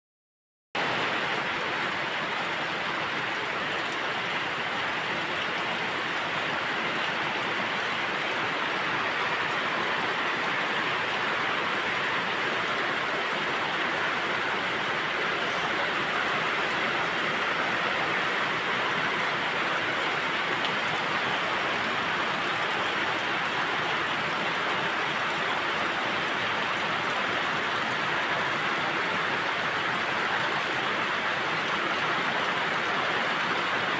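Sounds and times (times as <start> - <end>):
rain falling: 0.8 - 33.9.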